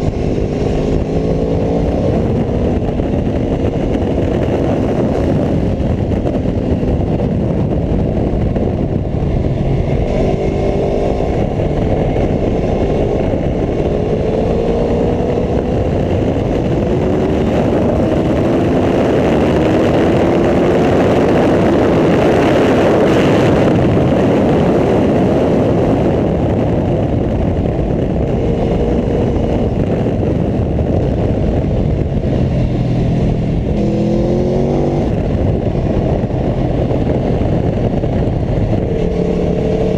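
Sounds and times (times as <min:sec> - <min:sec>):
loud rushing noise: 0:00.0 - 0:39.9
motorcycle engine accelerating: 0:00.0 - 0:39.9.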